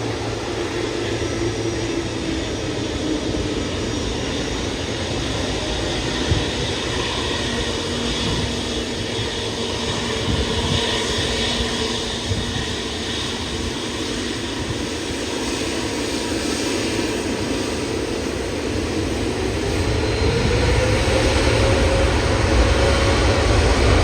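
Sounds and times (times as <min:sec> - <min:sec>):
jet engine whine: 0:00.0 - 0:24.0
jet engines rumbling: 0:00.0 - 0:24.0.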